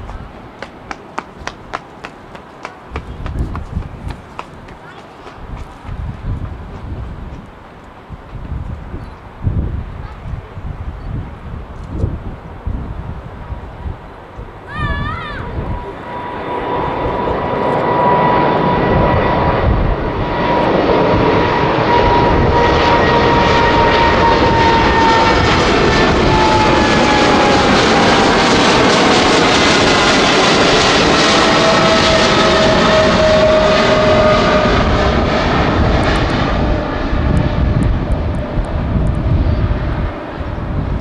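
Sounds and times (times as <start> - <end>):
jet airliner roaring past: 0.0 - 41.0.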